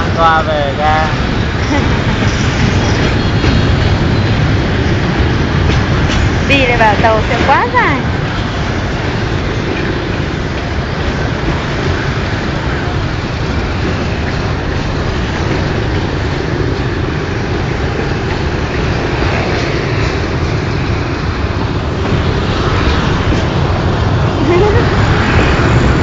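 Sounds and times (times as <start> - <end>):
freight train wagons rolling past: 0.0 - 26.0.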